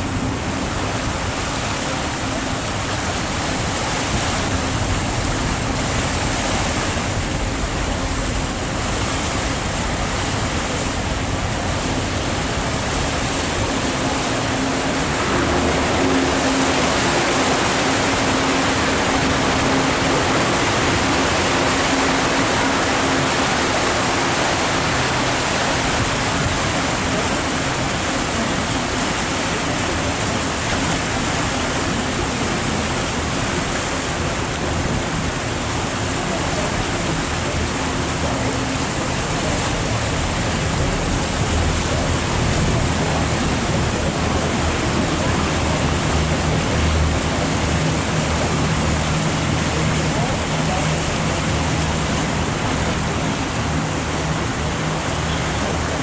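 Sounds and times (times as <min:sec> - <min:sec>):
water rushing in boat wake: 0:00.0 - 0:56.0.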